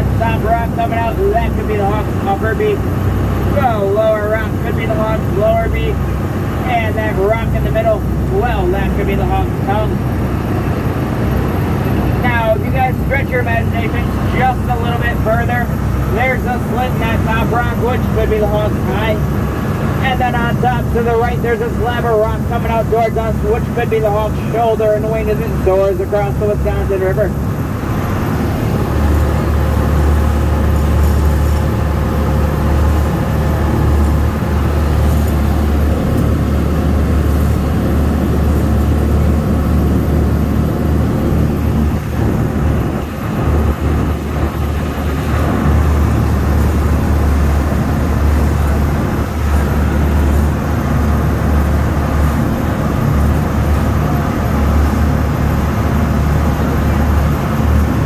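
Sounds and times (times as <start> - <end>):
boat engine droning: 0.0 - 58.0
water wash: 0.0 - 58.0.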